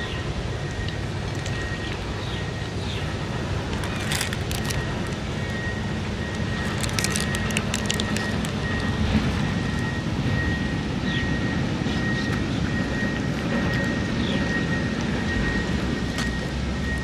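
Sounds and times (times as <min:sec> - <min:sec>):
high steady whine: 0:00.0 - 0:17.0
low background rumble: 0:00.0 - 0:17.0.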